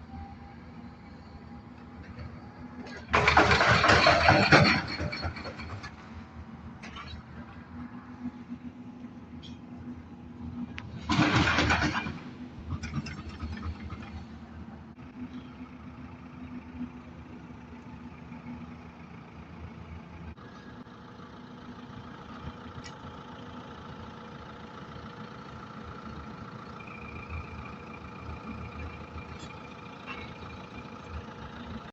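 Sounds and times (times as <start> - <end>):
excavator engine running: 0.0 - 31.9.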